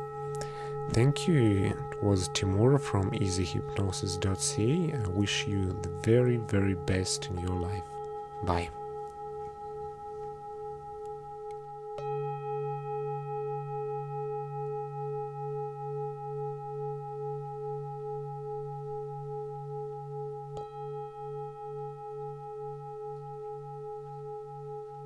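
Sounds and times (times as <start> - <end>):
singing bowl ringing: 0.0 - 3.8, 7.6 - 25.0.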